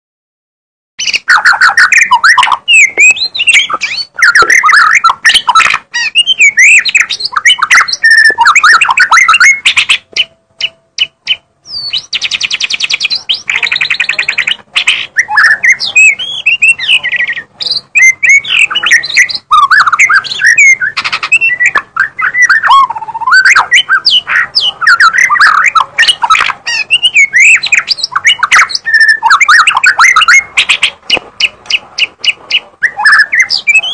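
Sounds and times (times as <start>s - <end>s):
sharp bird clicks: 1.0s - 17.0s, 18.6s - 33.9s
bird singing whistled phrases: 1.0s - 33.9s.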